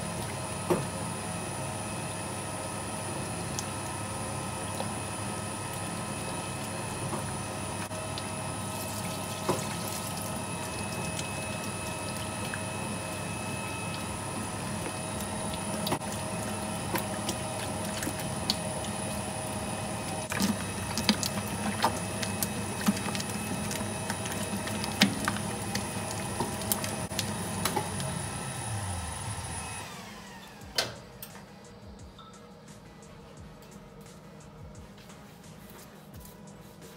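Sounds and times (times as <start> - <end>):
mixer motor hum and whine: 0.0 - 36.9.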